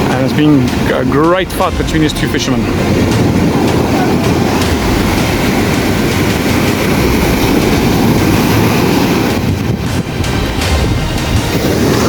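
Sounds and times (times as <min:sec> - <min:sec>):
sea wash: 0:00.0 - 0:12.0
wind buffeting microphone: 0:00.0 - 0:12.0.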